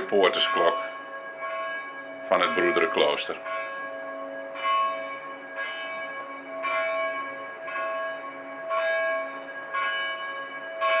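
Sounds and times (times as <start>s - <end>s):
church bell tolling: 0.0s - 11.0s.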